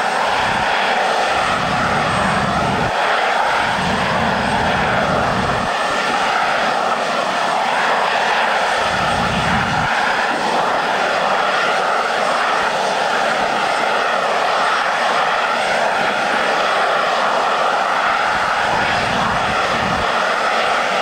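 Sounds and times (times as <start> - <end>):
jet engine running: 0.0 - 21.0.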